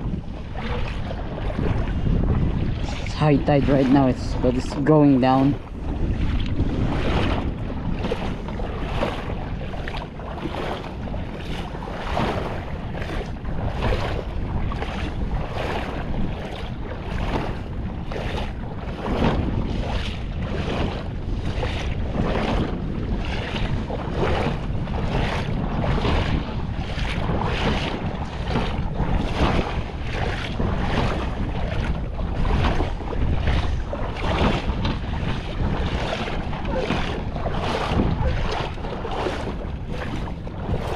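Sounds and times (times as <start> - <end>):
footsteps splashing through water: 0.0 - 40.9
wind buffeting microphone: 0.0 - 40.9.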